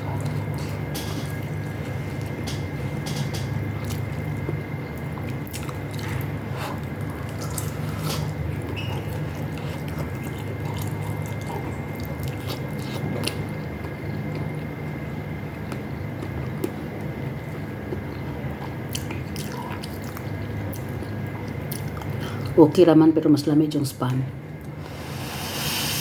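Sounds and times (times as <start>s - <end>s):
wet chewing mouth sounds: 0.0s - 2.7s, 3.4s - 22.6s
steady low hum: 0.0s - 26.0s.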